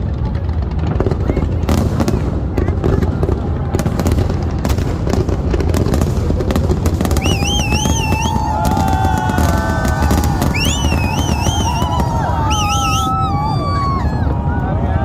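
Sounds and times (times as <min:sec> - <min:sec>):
fireworks bangs and crackles: 0:00.0 - 0:15.0
fireworks whistling: 0:01.0 - 0:14.4.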